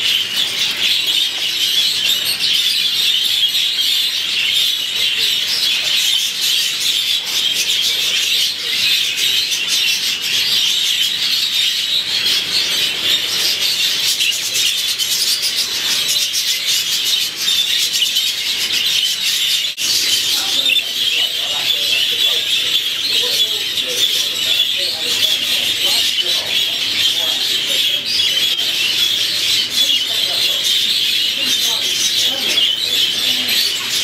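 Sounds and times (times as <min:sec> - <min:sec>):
budgerigars chattering: 0:00.0 - 0:34.0.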